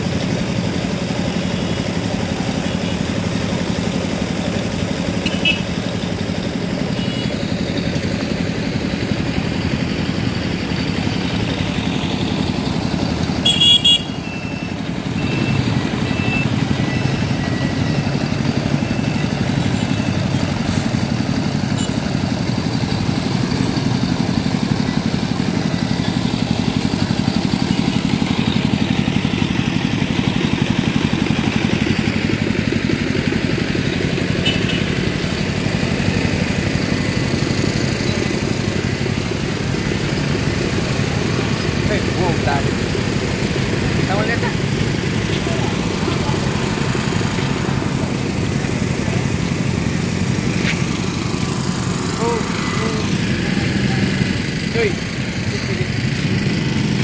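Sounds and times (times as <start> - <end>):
motorcycle engines in traffic: 0.0 - 57.0.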